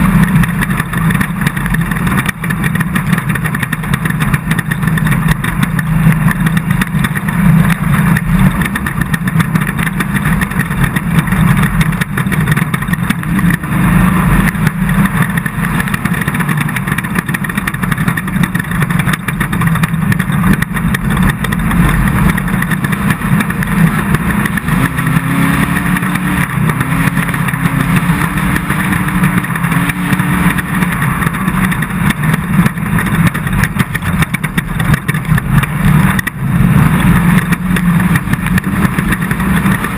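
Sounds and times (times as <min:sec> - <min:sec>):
race car engine running hard: 0:00.0 - 0:39.9
rough driving noise: 0:00.0 - 0:39.9.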